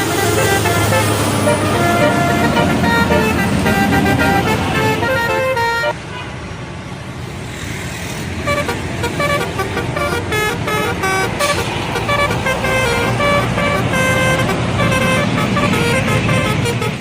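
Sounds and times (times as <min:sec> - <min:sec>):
bus horn playing a melody: 0:00.0 - 0:06.3, 0:08.4 - 0:17.0
bus engine rumbling: 0:00.0 - 0:17.0.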